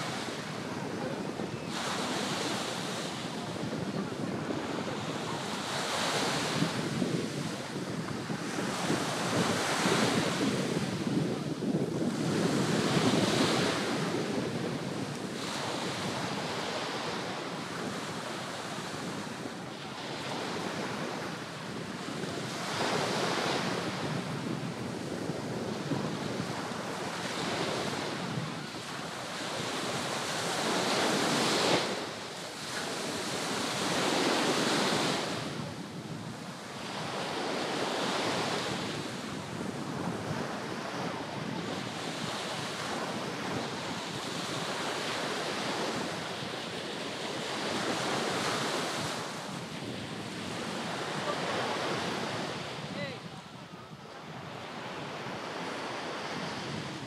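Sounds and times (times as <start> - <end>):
waves breaking on beach: 0.0 - 57.0
wind on microphone: 0.0 - 57.0.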